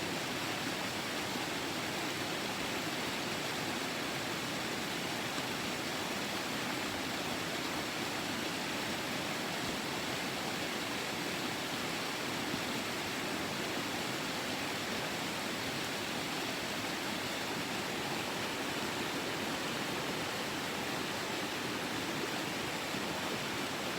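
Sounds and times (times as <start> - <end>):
river water rushing over stones: 0.1 - 23.9.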